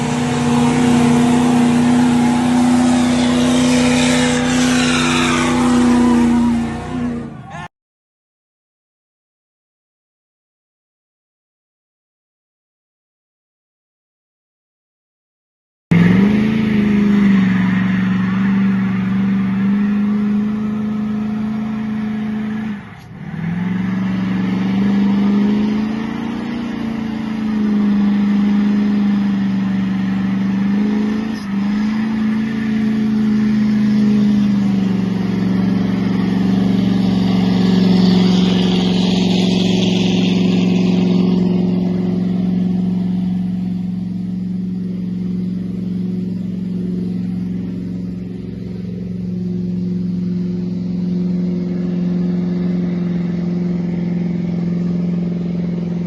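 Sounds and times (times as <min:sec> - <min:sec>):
diesel truck engine revving: 0:00.0 - 0:07.7, 0:15.9 - 0:56.0.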